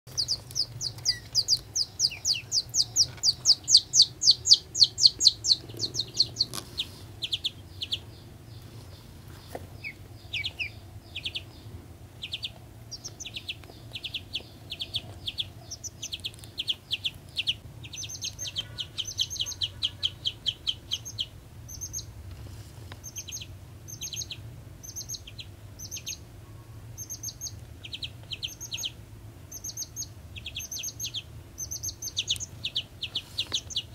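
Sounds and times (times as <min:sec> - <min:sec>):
chick peeping: 0:00.1 - 0:22.2, 0:23.0 - 0:26.3, 0:26.9 - 0:33.9.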